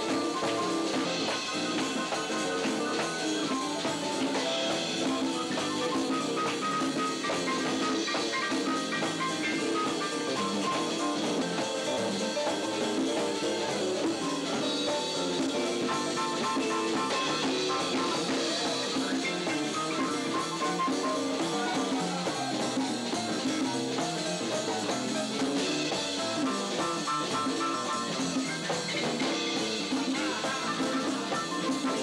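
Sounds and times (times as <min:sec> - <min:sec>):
drums: 0:00.0 - 0:32.0
guitar: 0:00.0 - 0:32.0
live jazz band playing: 0:00.0 - 0:32.0.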